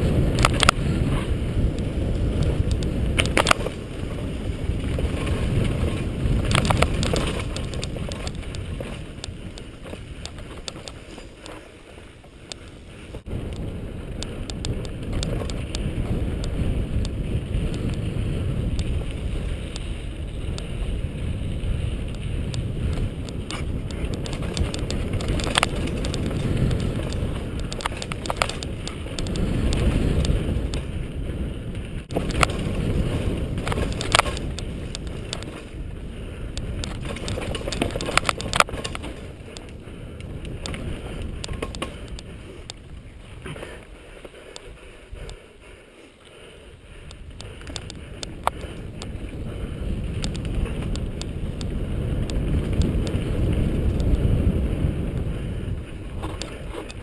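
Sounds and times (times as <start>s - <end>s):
bike clicking and rattling: 0.0s - 57.0s
bike tyre noise on dirt: 0.0s - 57.0s
wind rumble on microphone: 0.0s - 57.0s.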